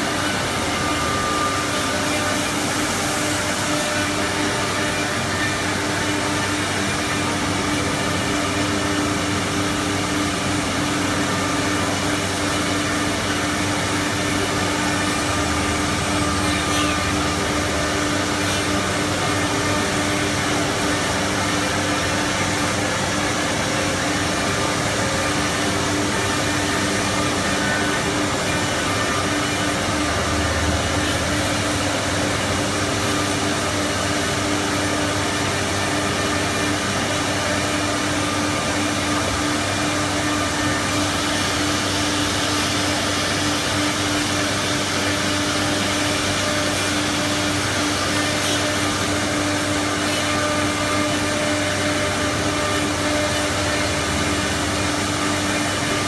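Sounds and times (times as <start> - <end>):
cnc router running: 0.0 - 56.0.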